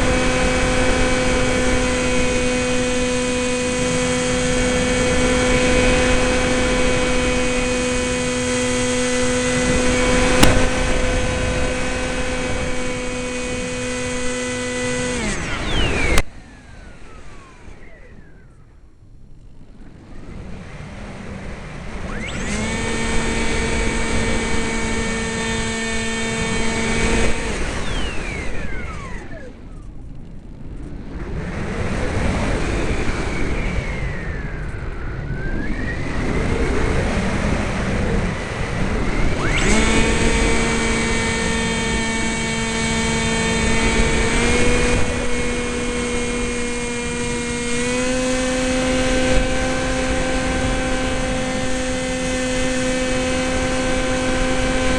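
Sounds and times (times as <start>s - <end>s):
wind rush: 0.0s - 18.4s, 19.5s - 54.9s
electric motor and propeller whine: 0.0s - 54.9s.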